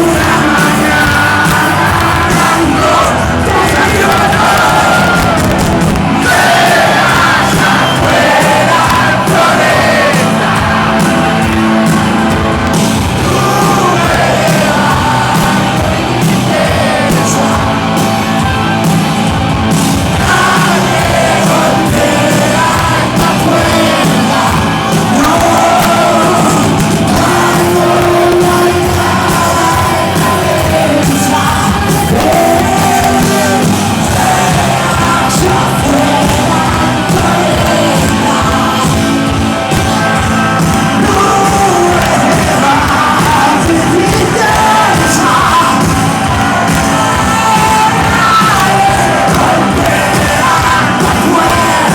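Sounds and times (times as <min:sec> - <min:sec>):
person singing: 0:00.0 - 0:18.6, 0:20.1 - 0:51.9
live band playing: 0:00.0 - 0:51.9.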